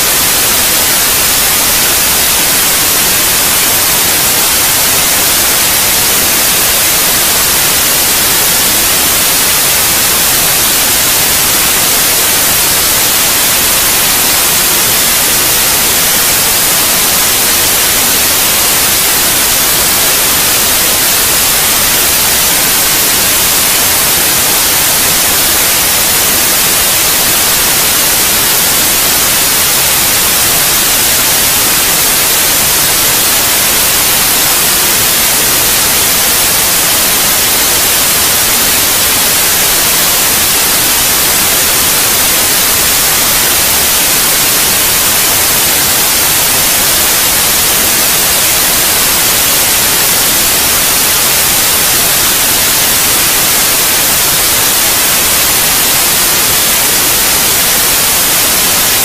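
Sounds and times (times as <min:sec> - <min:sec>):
loud white noise hiss: 0:00.0 - 0:59.0.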